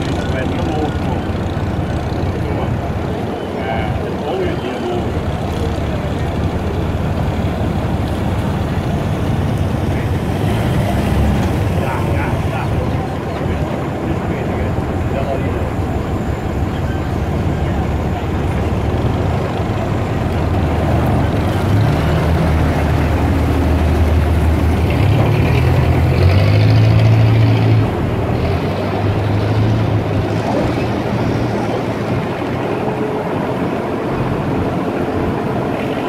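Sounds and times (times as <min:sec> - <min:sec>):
motorboat engine droning: 0:00.0 - 0:36.0
rushing water: 0:00.0 - 0:36.0
wind: 0:00.0 - 0:36.0.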